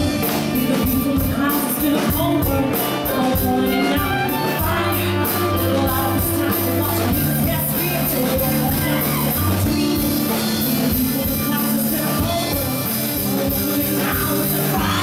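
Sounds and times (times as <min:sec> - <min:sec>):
bass notes: 0:00.0 - 0:15.0
drums and cymbals: 0:00.0 - 0:15.0
guitar: 0:00.0 - 0:15.0
woman singing lead: 0:00.0 - 0:15.0.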